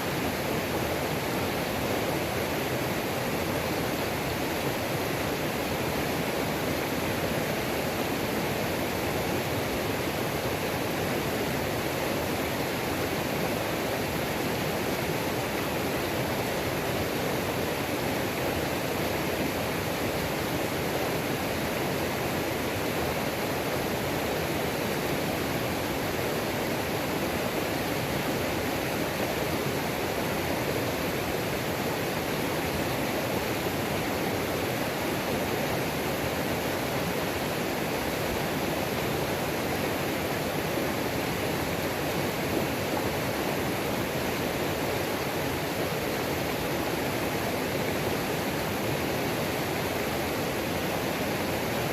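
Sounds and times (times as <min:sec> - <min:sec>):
waterfall roaring: 0:00.0 - 0:51.9.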